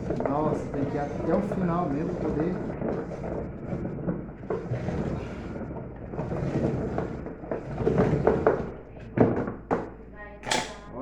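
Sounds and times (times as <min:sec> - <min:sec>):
metal scraping and creaking: 0:00.0 - 0:11.0.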